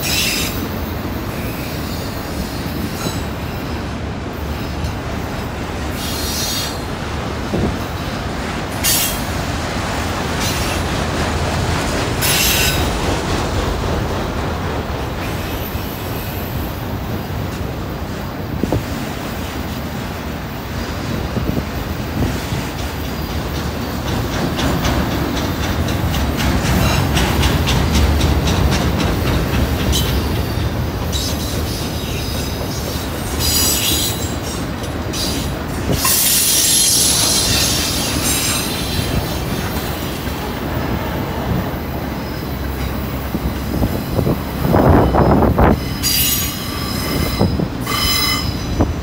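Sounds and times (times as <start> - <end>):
train wheels rumbling and clicking: 0.0 - 49.0.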